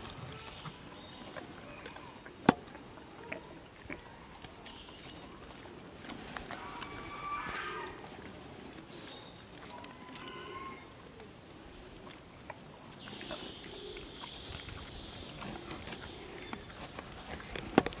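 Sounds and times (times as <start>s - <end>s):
pig nosing and licking gravel: 0.0s - 18.0s.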